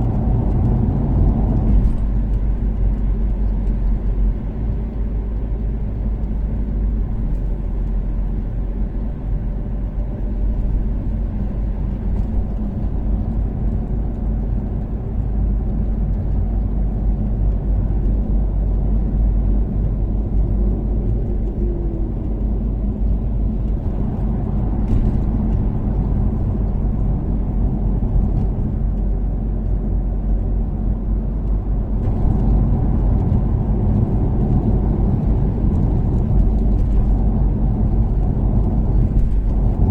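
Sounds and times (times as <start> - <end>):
car engine cruising: 0.0 - 39.9
road and tyre rumble: 0.0 - 39.9.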